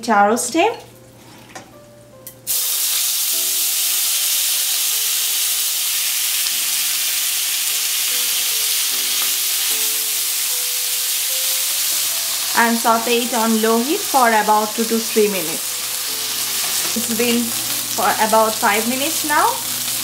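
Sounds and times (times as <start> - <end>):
food sizzling in hot oil: 2.5 - 20.0.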